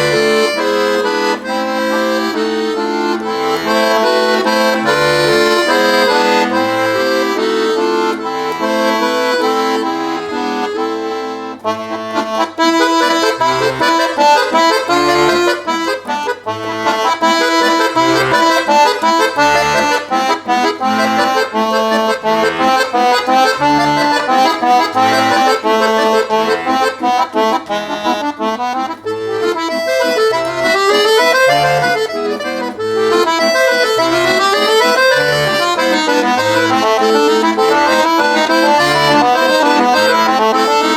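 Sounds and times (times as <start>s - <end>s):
solo accordion folk song: 0.0s - 40.9s.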